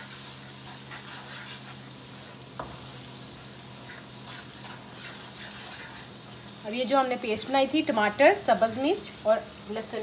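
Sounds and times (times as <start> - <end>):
wooden spatula stirring and scraping: 0.0 - 8.8
masala sizzling in oil: 0.0 - 10.0.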